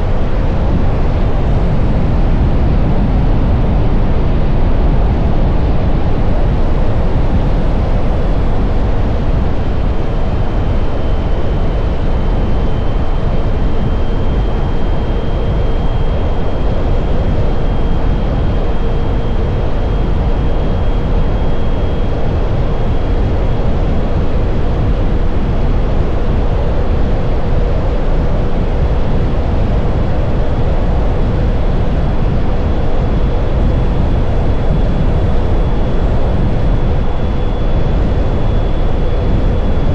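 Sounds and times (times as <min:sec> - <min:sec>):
thin steady whine: 0:00.0 - 0:39.9
wind and road rush: 0:00.0 - 0:39.9.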